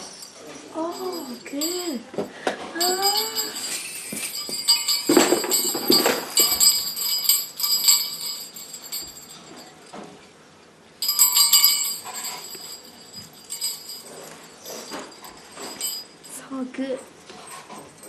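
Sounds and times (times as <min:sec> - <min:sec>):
jingle bells jingling: 0:00.0 - 0:10.0, 0:11.0 - 0:18.0.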